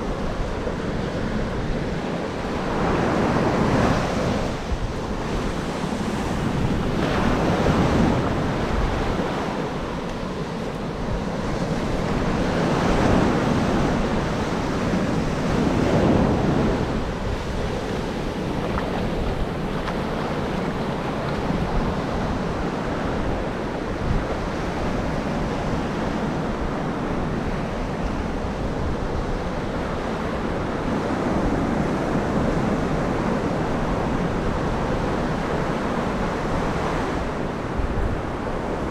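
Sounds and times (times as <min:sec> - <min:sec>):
ocean surf breaking: 0:00.0 - 0:38.9
wind buffeting microphone: 0:00.0 - 0:38.9.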